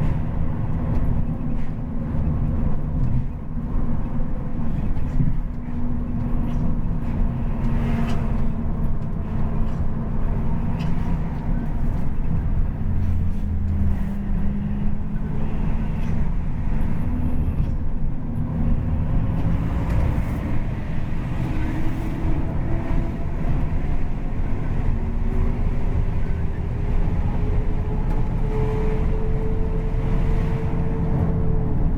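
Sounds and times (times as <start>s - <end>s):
bus engine rumbling: 0.0s - 31.9s.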